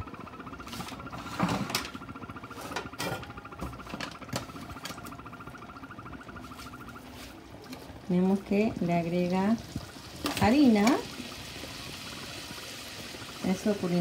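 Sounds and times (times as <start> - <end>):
fast-pulsing whine: 0.0 - 14.0.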